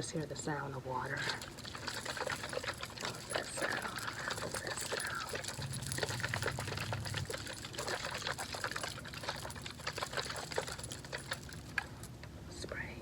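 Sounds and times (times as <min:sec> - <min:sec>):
water trickling and splashing: 0:01.0 - 0:12.2.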